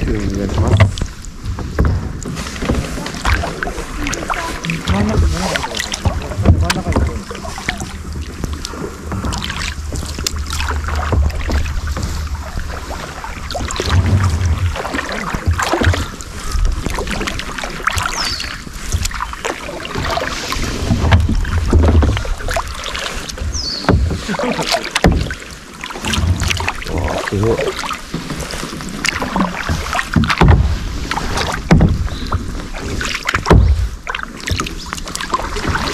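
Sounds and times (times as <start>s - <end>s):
paddle strokes splashing: 0.0s - 35.9s
water swishing along hull: 0.0s - 35.9s.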